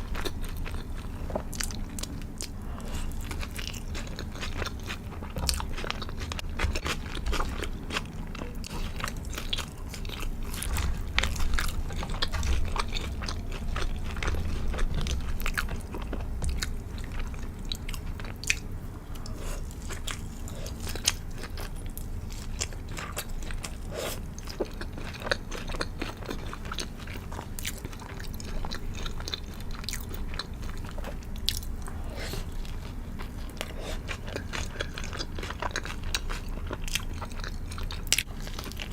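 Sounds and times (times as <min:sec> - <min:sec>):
person chewing crispy food: 0:00.0 - 0:38.9.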